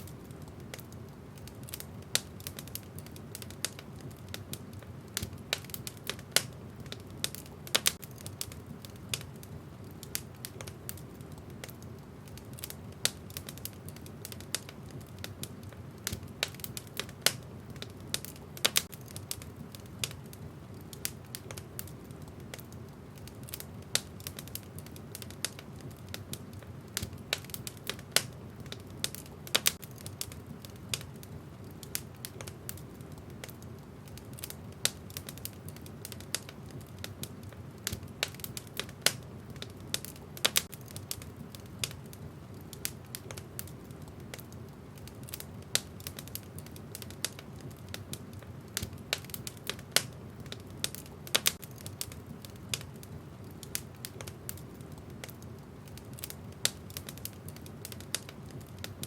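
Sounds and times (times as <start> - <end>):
low rumble of flames: 0.0 - 59.0
sharp pops and snaps: 0.0 - 59.0
wood fire crackling: 0.0 - 59.0.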